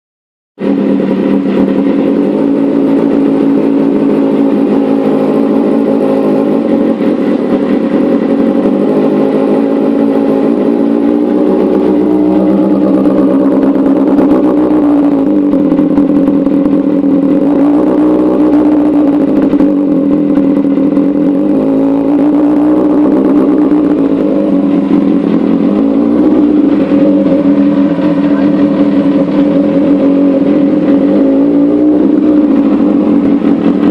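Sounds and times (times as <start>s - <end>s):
motorcycle engine revving high: 0.6s - 33.9s.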